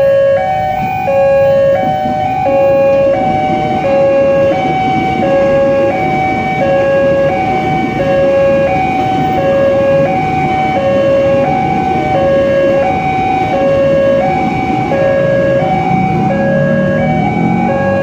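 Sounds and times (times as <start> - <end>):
electric train passing: 0.0 - 18.0
level-crossing two-tone alarm: 0.0 - 18.0.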